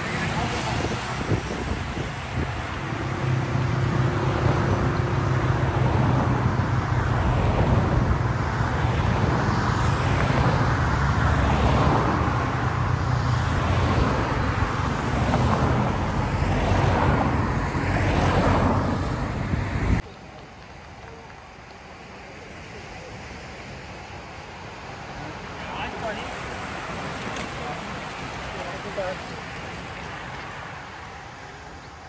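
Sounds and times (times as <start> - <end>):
cars driving past: 0.0 - 32.0.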